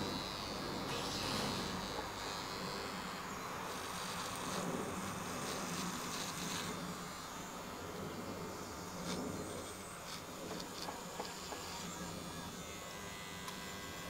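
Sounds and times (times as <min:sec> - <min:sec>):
electric hair clippers buzzing: 0:00.0 - 0:14.0.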